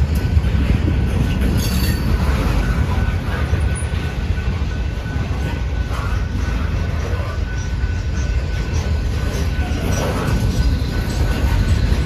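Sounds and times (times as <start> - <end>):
freight cars rumbling on rails: 0.0 - 12.0.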